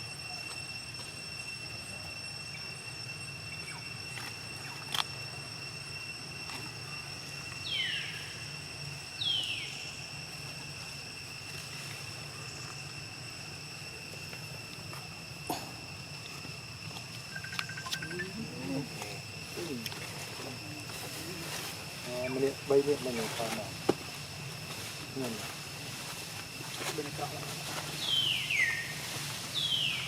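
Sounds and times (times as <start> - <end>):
steady high buzzing: 0.0 - 30.0.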